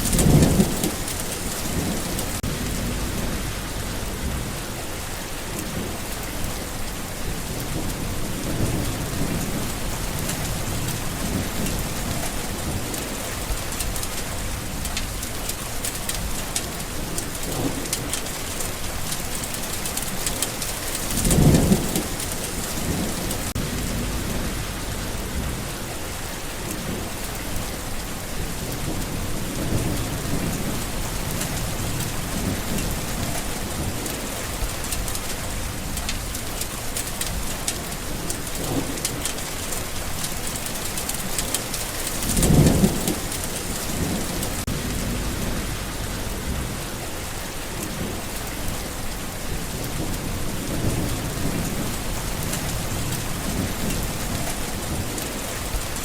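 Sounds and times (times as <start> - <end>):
steady rain falling: 0.0 - 56.0
thunder rumbling: 0.0 - 56.0.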